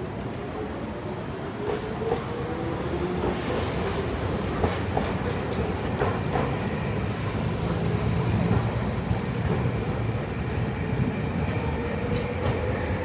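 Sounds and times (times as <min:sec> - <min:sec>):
streetcar rumbling on tracks: 0:00.0 - 0:13.0.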